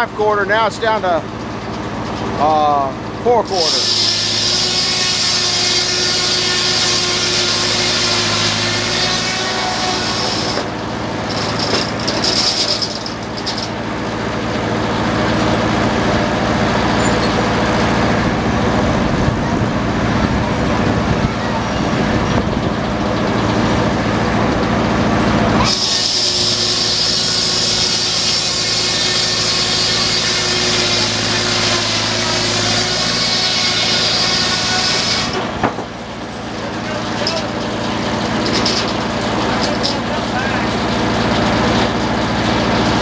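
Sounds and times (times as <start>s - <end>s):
saw blade cutting log whine: 0.0s - 43.0s
sawmill blade and belt running: 0.0s - 43.0s.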